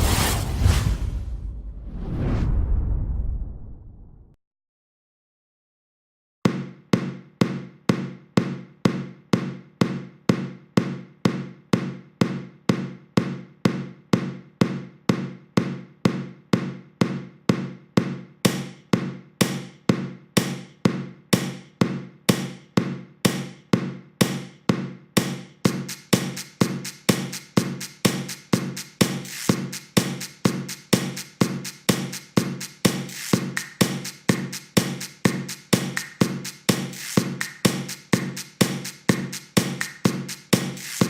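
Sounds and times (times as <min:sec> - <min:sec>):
percussive beat of struck tools: 0:06.5 - 0:41.0.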